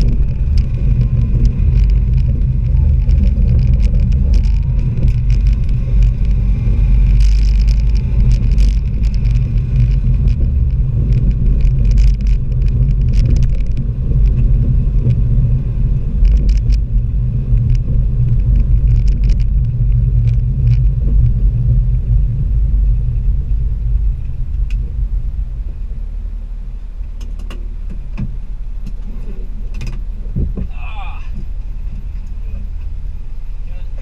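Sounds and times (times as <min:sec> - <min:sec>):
rattles and clicks: 0:00.0 - 0:25.9, 0:27.0 - 0:34.0
car engine and road rumble: 0:00.0 - 0:34.0.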